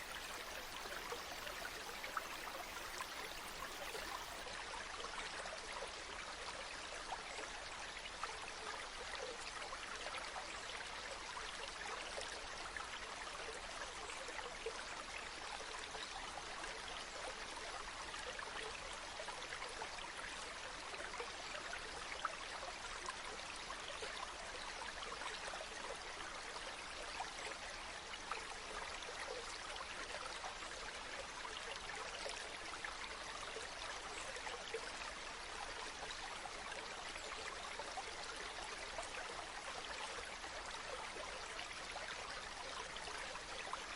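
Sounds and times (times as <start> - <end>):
stream water babbling: 0.0 - 43.9.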